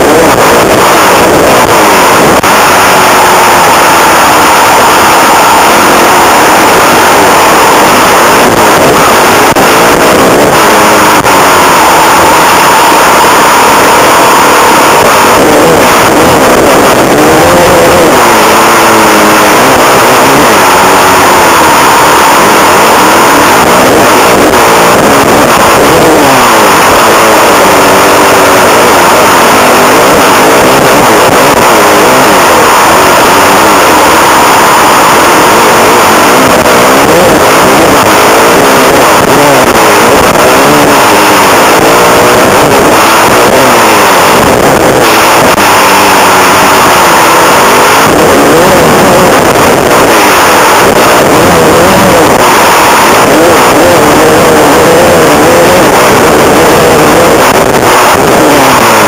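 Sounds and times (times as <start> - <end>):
motocross bike engine revving: 0.0 - 59.0
rushing noise: 0.0 - 59.0.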